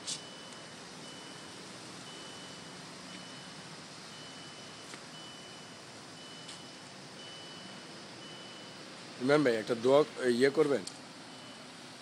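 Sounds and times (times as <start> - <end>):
car warning chime beeping: 0.2 - 9.4, 11.2 - 11.9.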